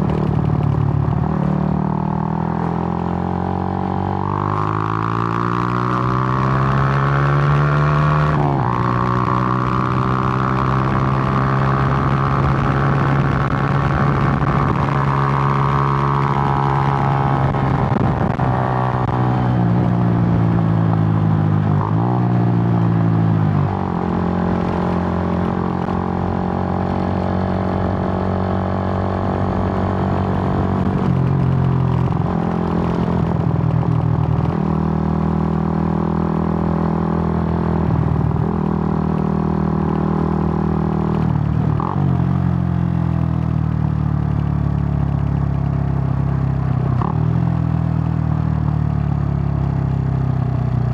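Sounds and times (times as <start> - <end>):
motorcycle engine shifting gears: 0.0 - 50.9.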